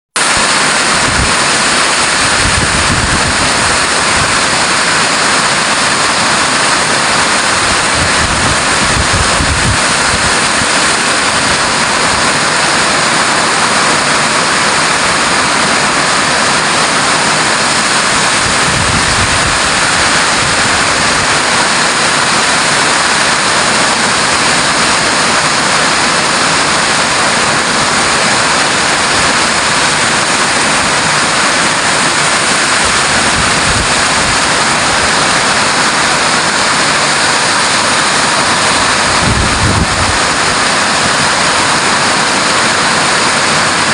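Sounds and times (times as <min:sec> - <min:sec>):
heavy rain pouring: 0:00.1 - 0:43.9
wind buffeting microphone: 0:00.3 - 0:42.9.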